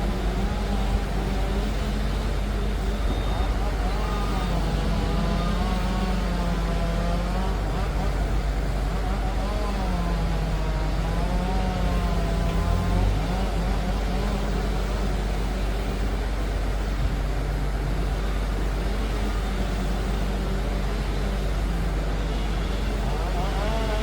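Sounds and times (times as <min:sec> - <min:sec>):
dozer diesel engine rumbling: 0:00.0 - 0:24.0.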